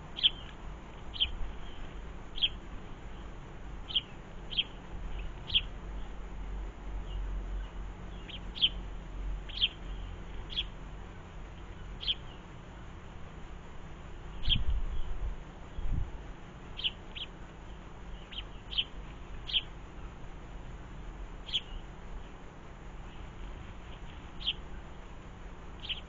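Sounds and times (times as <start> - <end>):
low rumbles: 0.0 - 26.0
songbirds chirping: 0.0 - 26.0.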